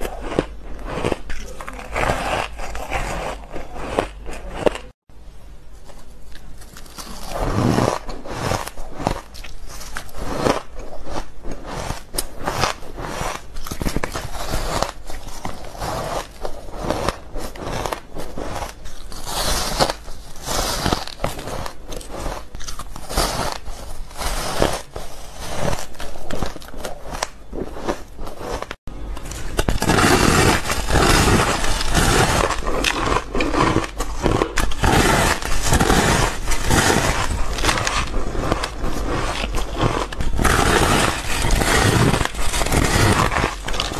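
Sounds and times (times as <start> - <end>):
ice being chewed and crunched: 0.0 - 5.0, 5.9 - 43.9.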